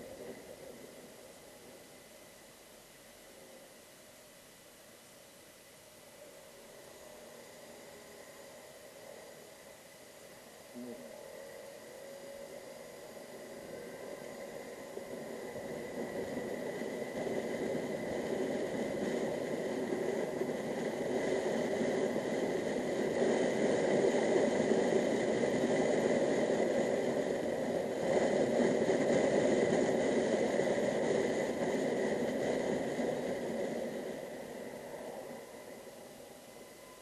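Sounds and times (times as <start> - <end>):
road noise: 0.0 - 37.0
wind: 0.0 - 37.0.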